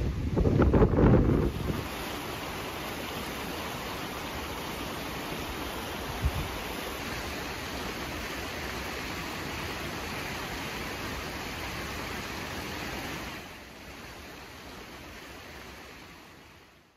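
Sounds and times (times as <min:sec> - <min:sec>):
rushing water of waterfalls: 0:00.0 - 0:16.9.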